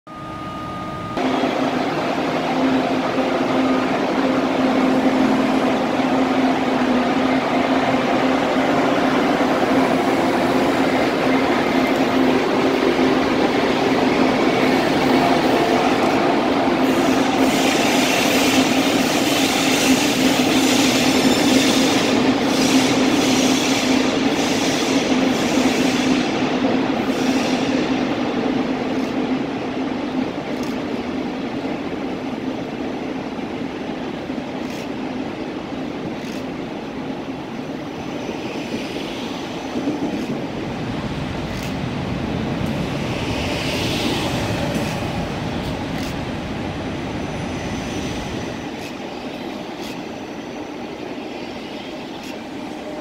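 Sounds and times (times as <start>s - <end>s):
electric train hum: 0.1s - 53.0s
train coaches rolling with clicks: 1.2s - 53.0s.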